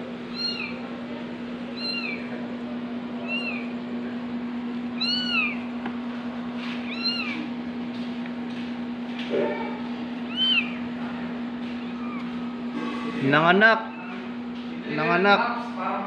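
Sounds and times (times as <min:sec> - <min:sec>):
kittens mewing: 0:00.0 - 0:08.0, 0:09.3 - 0:14.6
steady low hum: 0:00.0 - 0:16.0.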